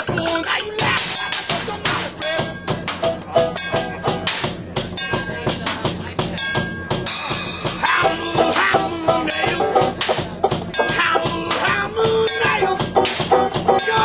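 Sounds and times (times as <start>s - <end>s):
drum kit beat: 0.0s - 14.0s
strummed banjo: 0.0s - 14.0s
held notes bending in pitch: 0.9s - 5.6s, 6.4s - 14.0s.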